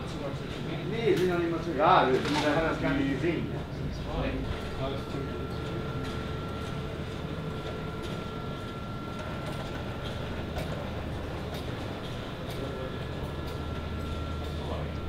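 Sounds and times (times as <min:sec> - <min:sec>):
constant high whine: 0:00.0 - 0:15.0
ventilation low rumble: 0:00.0 - 0:15.0.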